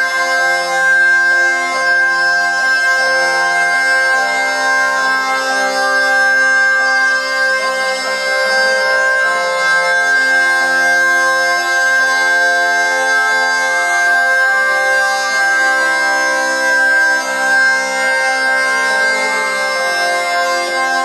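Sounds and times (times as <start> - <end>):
bagpipe melody over drones: 0.0 - 21.0.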